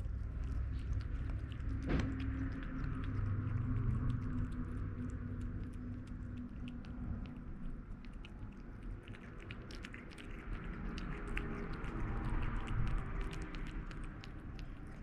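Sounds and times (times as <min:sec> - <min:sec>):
kitten chewing and smacking: 0:00.0 - 0:15.0
steady low hum: 0:00.0 - 0:15.0.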